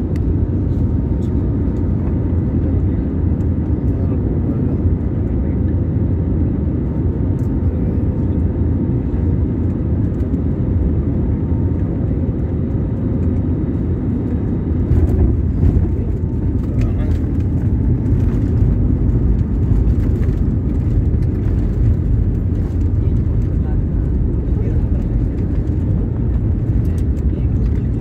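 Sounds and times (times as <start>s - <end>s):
engine and airflow rumble: 0.0s - 28.0s.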